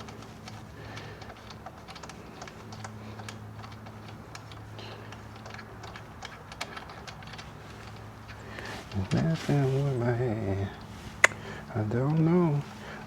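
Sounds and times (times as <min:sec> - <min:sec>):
hand tools clicking on metal: 0:00.0 - 0:13.0
low steady hum: 0:00.0 - 0:13.0.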